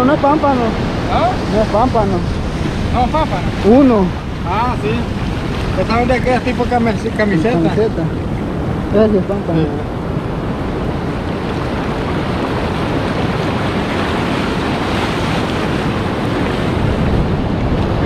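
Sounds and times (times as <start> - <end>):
ocean waves breaking: 0.0 - 18.0
wind buffeting microphone: 0.0 - 18.0.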